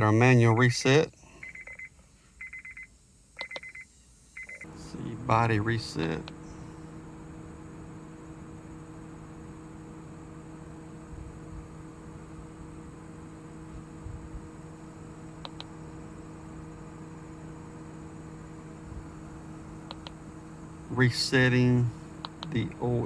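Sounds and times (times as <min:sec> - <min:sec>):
steady low hum with tones: 0:00.0 - 0:23.0.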